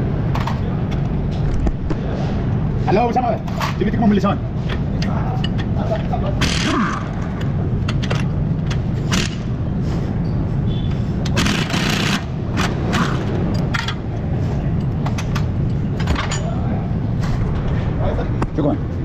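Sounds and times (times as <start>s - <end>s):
low workshop hum: 0.0s - 19.0s.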